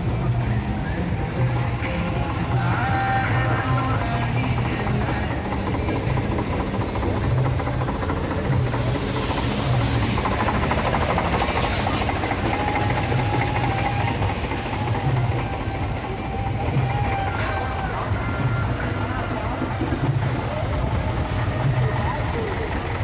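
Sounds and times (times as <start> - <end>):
diesel tractor engines throbbing: 0.0 - 23.0.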